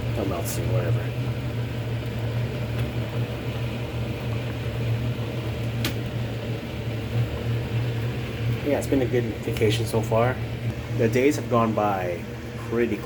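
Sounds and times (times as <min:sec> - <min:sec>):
kitchen appliance fan humming: 0:00.0 - 0:13.0.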